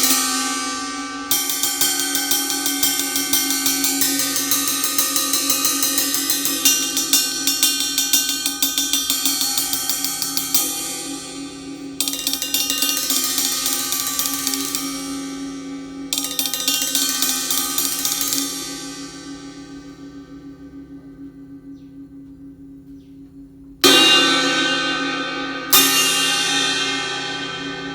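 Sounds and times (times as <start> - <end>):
ride cymbal struck with stick: 0.0 - 21.9, 23.8 - 27.9.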